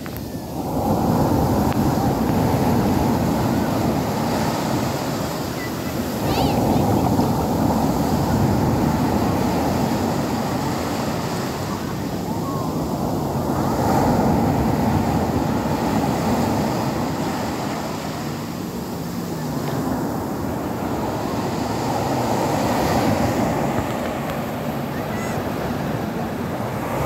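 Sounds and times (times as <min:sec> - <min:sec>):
sea waves crashing on beach: 0:00.0 - 0:27.0.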